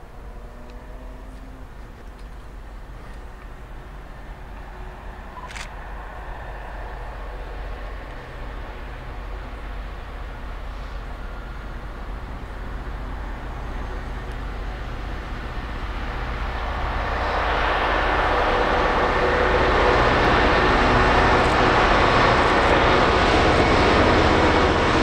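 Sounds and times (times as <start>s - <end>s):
train rushing past: 2.5s - 25.0s.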